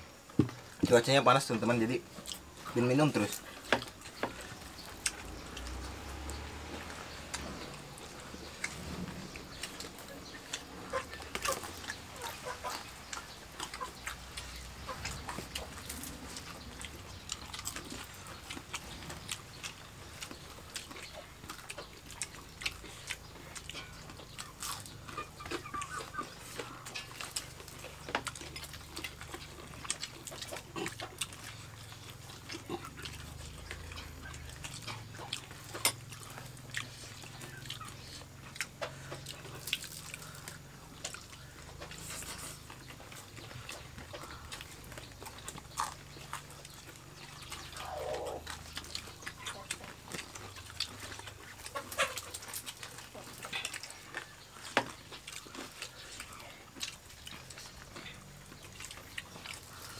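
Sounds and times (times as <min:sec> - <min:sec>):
people chewing and lip smacking: 0:00.0 - 0:59.9.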